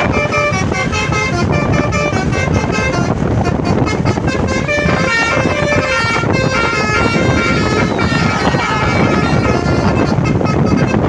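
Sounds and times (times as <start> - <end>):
bus horn melody: 0.0 - 11.0
steady low rumble: 0.0 - 11.0.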